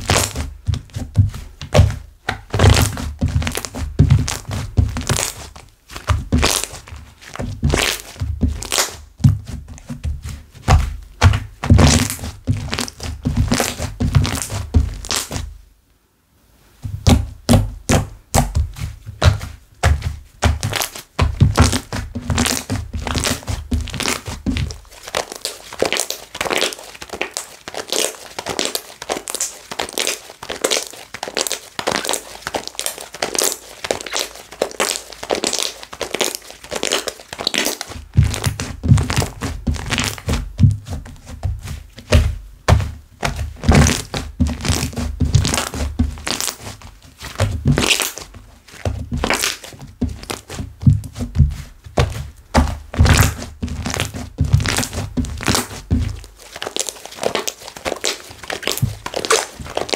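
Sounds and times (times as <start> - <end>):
dull thumps of pressed slime: 0.0 - 15.5, 16.8 - 27.4, 31.4 - 59.9
hands squishing slime: 0.0 - 15.5, 17.0 - 59.9.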